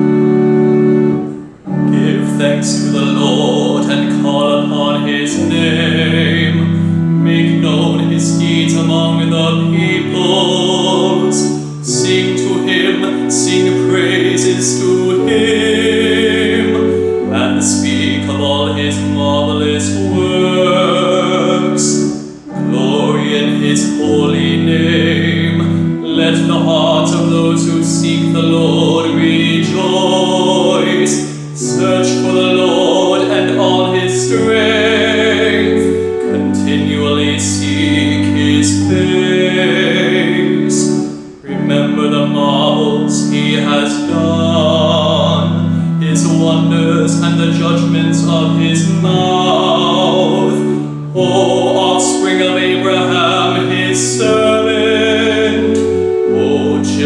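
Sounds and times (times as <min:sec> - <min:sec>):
man singing with vibrato: 0:00.0 - 0:57.0
sustained accompanying chords: 0:00.0 - 0:57.0.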